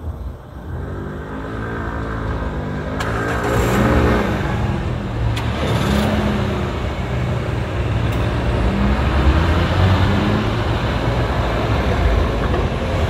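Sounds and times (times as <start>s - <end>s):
rumble of engines and tyres: 0.0s - 13.0s
car accelerating: 0.6s - 13.0s
heavy truck accelerating: 0.6s - 13.0s.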